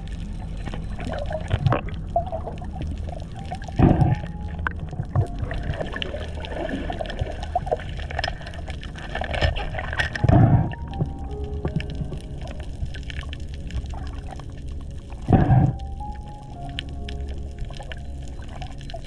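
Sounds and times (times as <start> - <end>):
muffled underwater water wash: 0.0 - 19.0
small clicks and crackles: 0.0 - 19.0.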